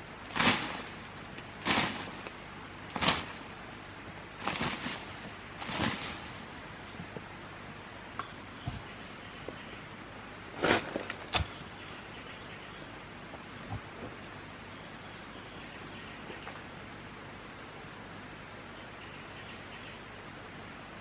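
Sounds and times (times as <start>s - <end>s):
high-pitched insect trill: 0.0s - 10.4s, 11.3s - 21.0s.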